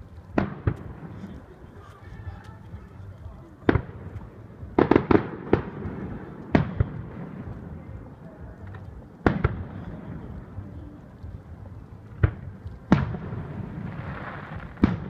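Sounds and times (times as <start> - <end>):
fireworks bangs with echo: 0.3 - 10.8, 12.1 - 15.0.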